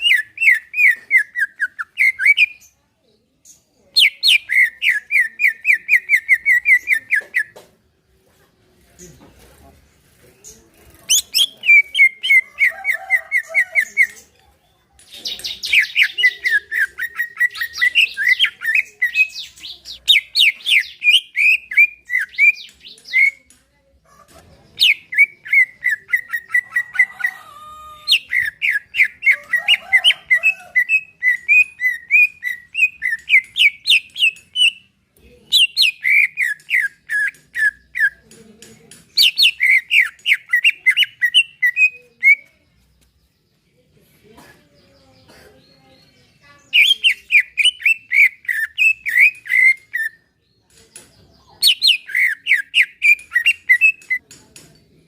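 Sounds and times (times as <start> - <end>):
bird singing chattering notes: 0.0 - 2.8, 3.4 - 7.6, 10.2 - 23.6, 24.4 - 43.8, 44.7 - 55.0.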